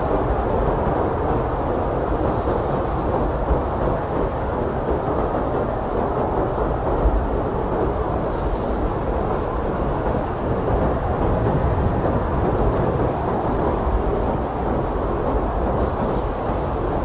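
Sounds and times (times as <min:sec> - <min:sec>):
blizzard wind roaring: 0:00.0 - 0:17.0.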